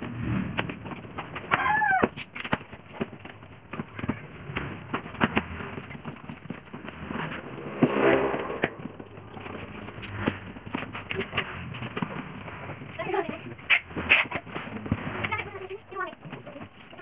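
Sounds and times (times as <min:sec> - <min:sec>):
cardboard boxes tapped and knocked: 0:00.0 - 0:07.3, 0:09.5 - 0:17.0.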